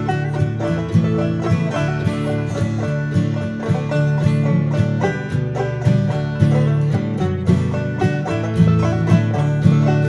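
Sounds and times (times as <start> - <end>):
plucked-string background music: 0.0 - 10.0.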